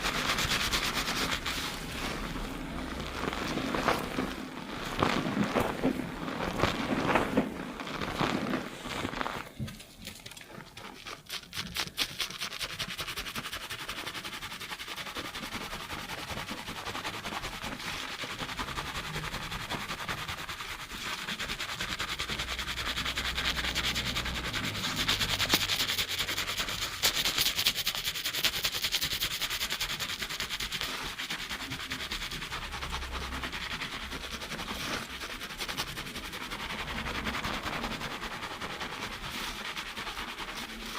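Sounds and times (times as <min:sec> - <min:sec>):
fingers scrubbing lathered hair: 0:00.0 - 0:40.9.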